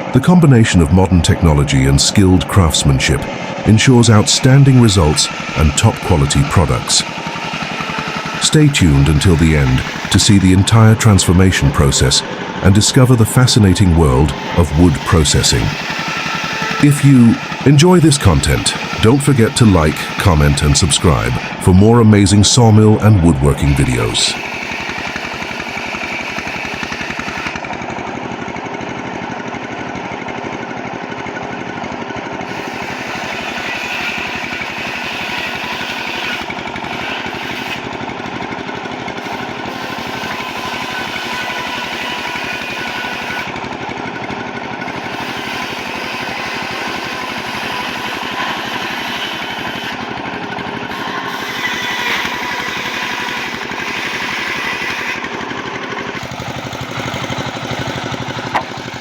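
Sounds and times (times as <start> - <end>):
sawmill machinery rattling: 0.0 - 59.0.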